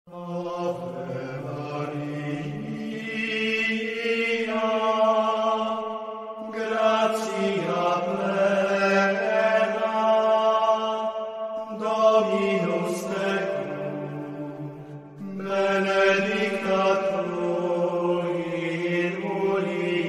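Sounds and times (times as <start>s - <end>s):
chanted singing: 0.1s - 20.0s.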